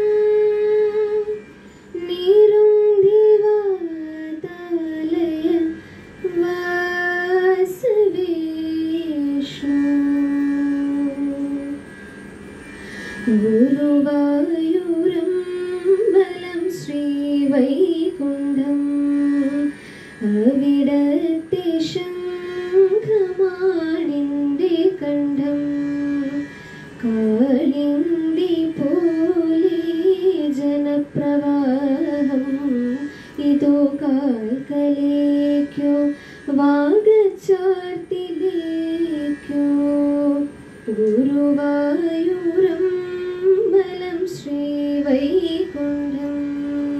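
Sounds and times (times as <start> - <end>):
woman singing into microphone: 0.0 - 11.9, 13.1 - 46.9.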